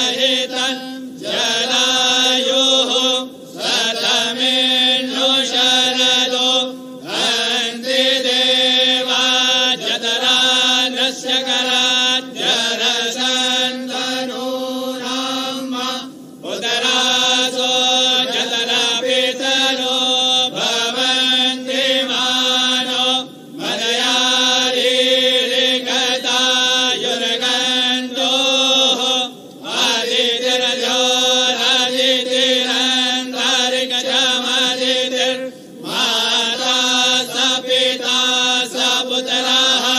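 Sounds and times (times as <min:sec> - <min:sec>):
person chanting: 0:00.0 - 0:39.9.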